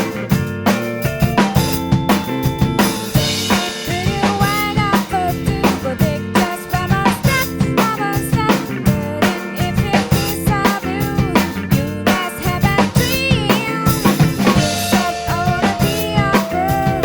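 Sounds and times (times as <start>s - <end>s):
drum kit playing: 0.0s - 17.0s
pop song recording: 3.0s - 17.0s.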